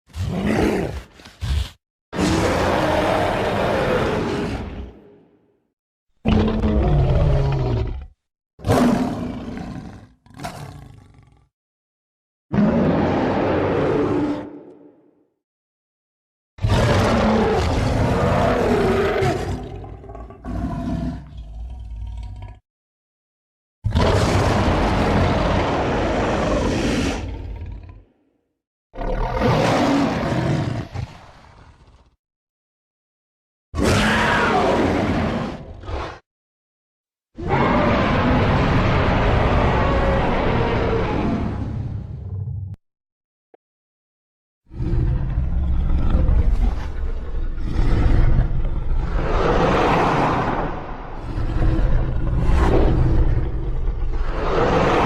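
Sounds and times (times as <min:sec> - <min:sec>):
monster roaring: 0:00.1 - 0:05.3, 0:06.2 - 0:11.3, 0:12.5 - 0:15.1, 0:16.6 - 0:22.6, 0:23.9 - 0:28.2, 0:29.0 - 0:32.2, 0:33.8 - 0:36.2, 0:37.4 - 0:42.7, 0:44.7 - 0:55.0.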